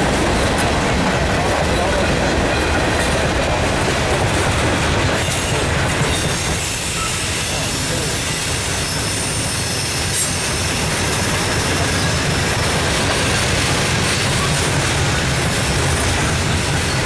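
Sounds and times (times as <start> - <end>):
freight train cars rolling past: 0.0 - 17.0
steel wheels on rails: 0.0 - 17.0.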